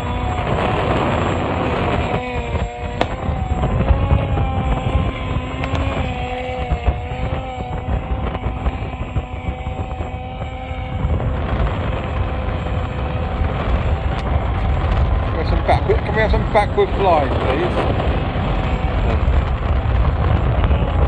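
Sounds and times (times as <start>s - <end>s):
drone propeller motors whining: 0.0s - 21.0s
wind buffeting microphone: 0.0s - 21.0s.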